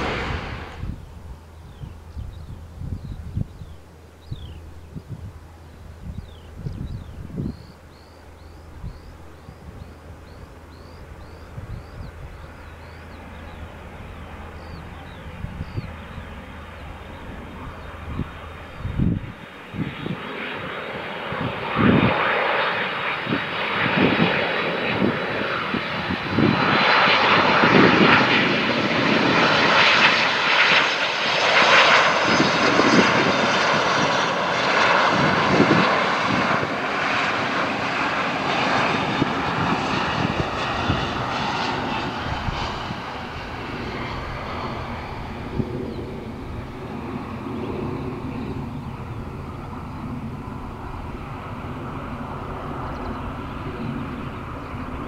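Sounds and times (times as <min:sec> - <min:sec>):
high engine whine: 0:00.0 - 0:31.4, 0:32.6 - 0:55.0
airliner engines passing by: 0:00.0 - 0:55.0.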